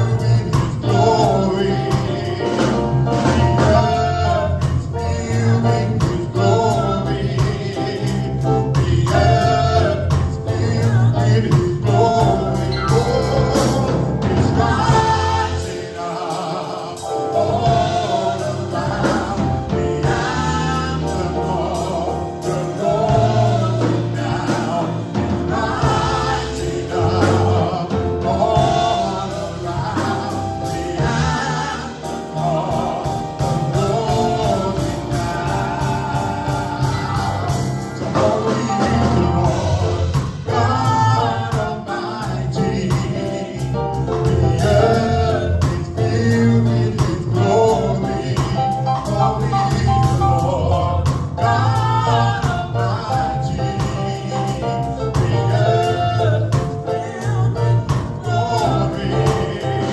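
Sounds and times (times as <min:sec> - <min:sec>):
gospel band and choir: 0:00.0 - 0:59.9.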